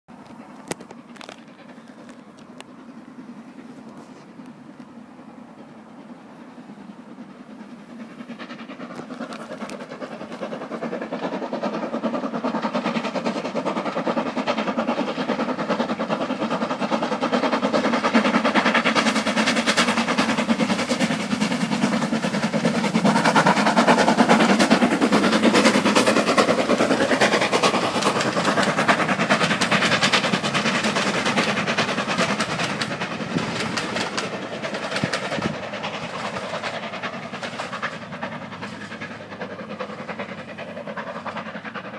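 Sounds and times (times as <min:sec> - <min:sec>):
train wheels clickety-clack: 0:00.1 - 0:41.9.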